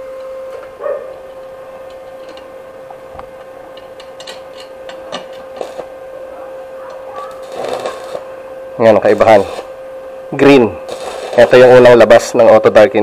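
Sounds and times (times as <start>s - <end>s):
welder humming: 0.0s - 13.0s
arc welding clicks and crackles: 0.2s - 6.0s, 6.8s - 13.0s.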